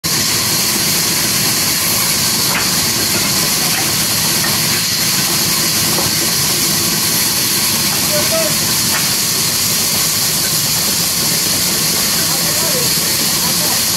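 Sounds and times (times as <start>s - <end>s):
band saw cutting timber: 0.1s - 13.9s.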